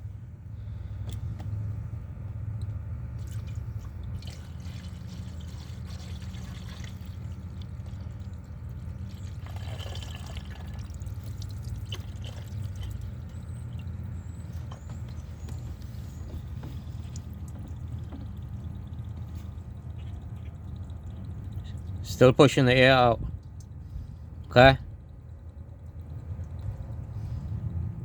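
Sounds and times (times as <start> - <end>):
coolant pouring and gurgling: 0.0 - 28.0
steady low hum: 0.0 - 28.0.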